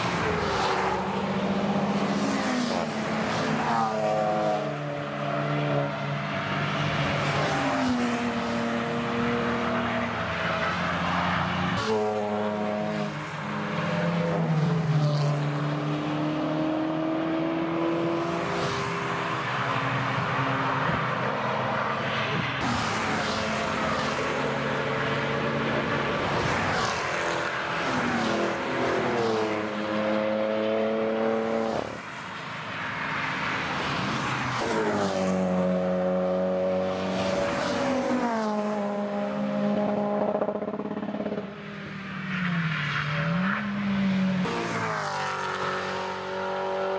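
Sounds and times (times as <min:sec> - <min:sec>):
race cars accelerating past: 0:00.0 - 0:32.2, 0:32.8 - 0:46.9.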